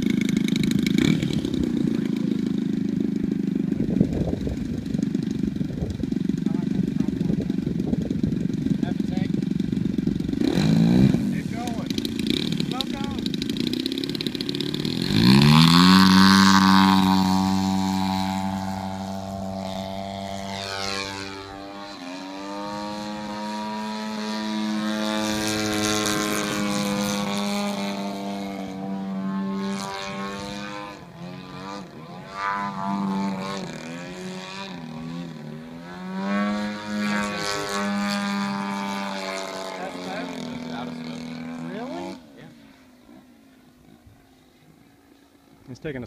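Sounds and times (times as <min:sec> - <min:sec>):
model plane engine droning: 0:00.0 - 0:46.0.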